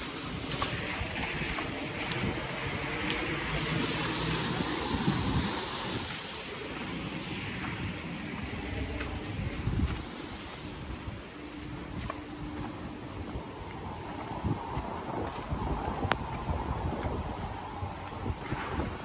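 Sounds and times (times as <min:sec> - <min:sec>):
wind gusts buffeting microphone: 0:00.0 - 0:19.0.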